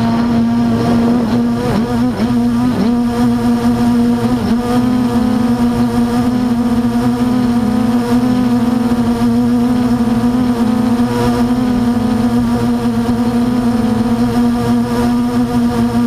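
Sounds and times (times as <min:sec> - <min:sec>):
quadcopter motors humming: 0:00.0 - 0:16.0.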